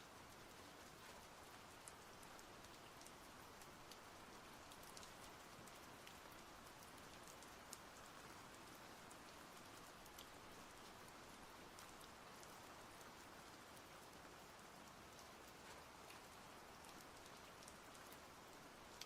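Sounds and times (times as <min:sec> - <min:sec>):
light rain hiss: 0:00.0 - 0:19.0
raindrop ticks: 0:00.1 - 0:19.0.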